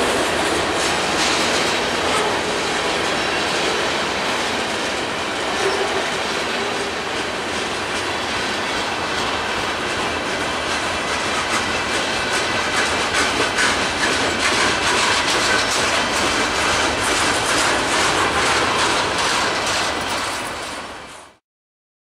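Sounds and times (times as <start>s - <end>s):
steel wheels rumbling on rail: 0.0s - 21.4s.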